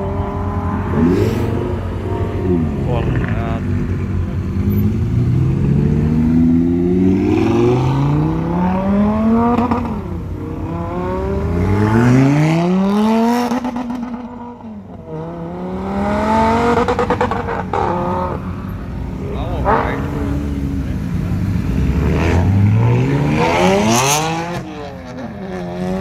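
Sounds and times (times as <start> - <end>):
sports car engines revving: 0.0 - 26.0.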